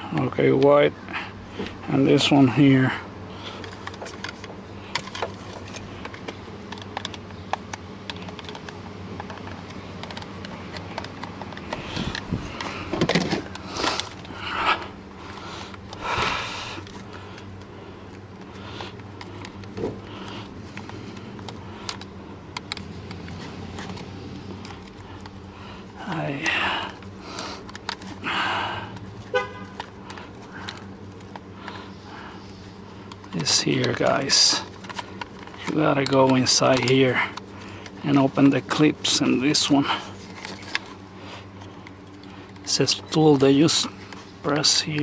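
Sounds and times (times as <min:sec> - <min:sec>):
steady low hum: 0:00.0 - 0:45.0
plastic parts clicking and scraping: 0:03.4 - 0:28.3, 0:28.9 - 0:45.0.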